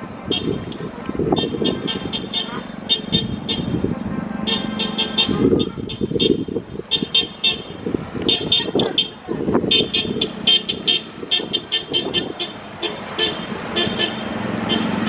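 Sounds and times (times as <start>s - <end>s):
tractor and lorry engines: 0.0s - 15.0s.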